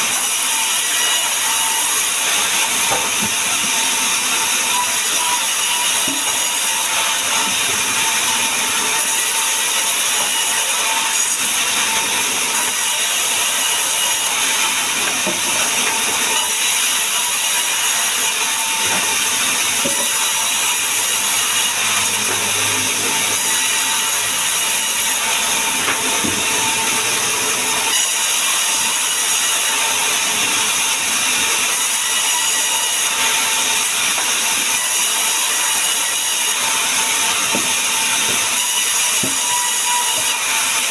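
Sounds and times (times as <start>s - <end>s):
power saw cutting wood: 0.0s - 40.9s.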